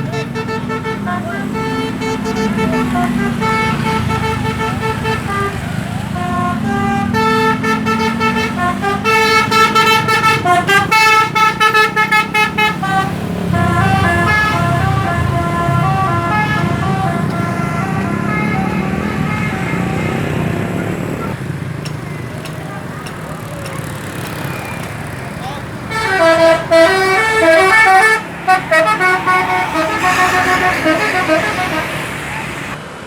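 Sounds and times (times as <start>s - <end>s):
musical air horn tunes: 0.0s - 20.6s, 25.9s - 32.8s
bus engine rumble: 0.0s - 33.0s.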